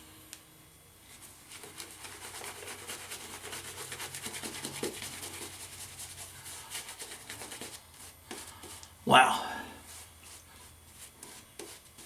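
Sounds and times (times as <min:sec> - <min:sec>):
shaving brush rubbing on stubble: 0:01.1 - 0:08.9, 0:09.8 - 0:12.0.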